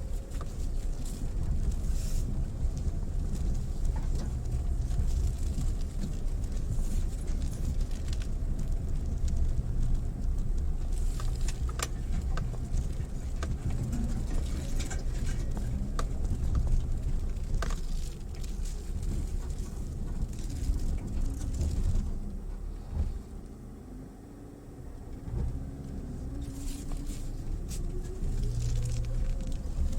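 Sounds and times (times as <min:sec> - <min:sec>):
engine and tyres rumbling: 0:00.0 - 0:29.9.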